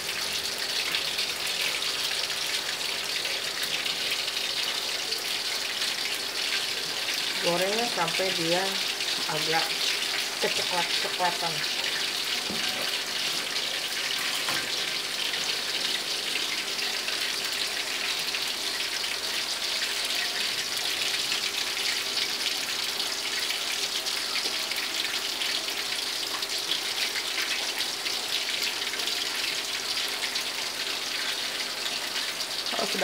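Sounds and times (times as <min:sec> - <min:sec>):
fish deep-frying in oil: 0:00.0 - 0:33.0.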